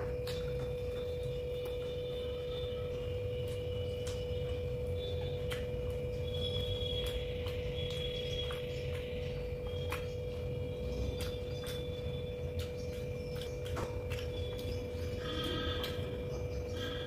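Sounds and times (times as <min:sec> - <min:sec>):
chewing: 0:00.0 - 0:17.0
steady hum: 0:00.0 - 0:17.0.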